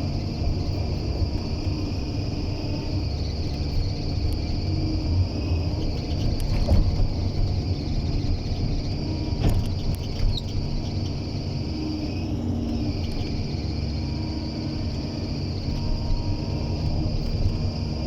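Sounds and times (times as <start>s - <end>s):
diesel engine running: 0.0s - 18.0s
insects droning: 0.0s - 18.0s.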